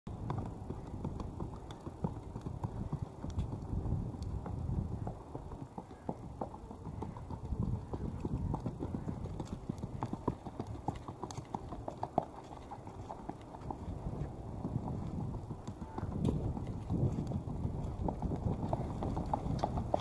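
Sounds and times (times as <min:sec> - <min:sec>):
horse hoofbeats on dirt: 0:00.1 - 0:20.0.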